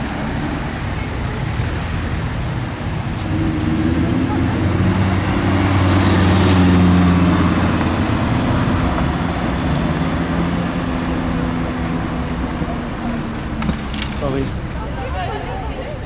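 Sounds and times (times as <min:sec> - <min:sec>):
car engine passing: 0:00.0 - 0:16.0
street traffic noise: 0:00.0 - 0:16.0.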